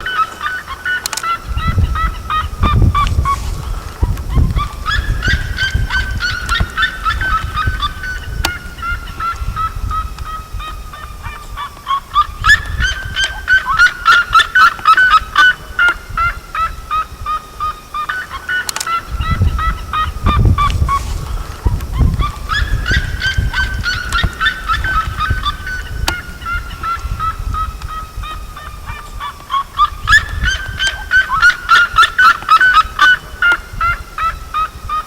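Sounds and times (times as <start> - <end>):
farm birds calling: 0.0 - 35.0.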